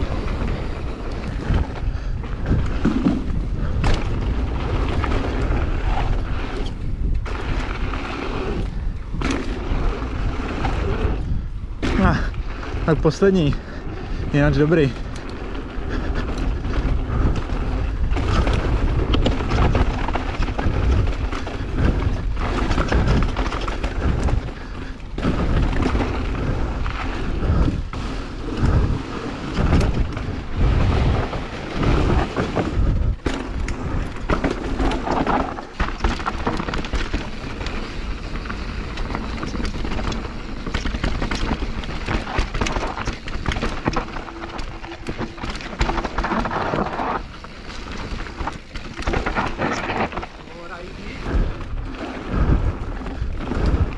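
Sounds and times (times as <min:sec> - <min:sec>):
bike knocking and rattling: 0:00.0 - 0:53.9
bike tyres on dirt: 0:00.0 - 0:53.9
wind rumbling on microphone: 0:00.0 - 0:53.9.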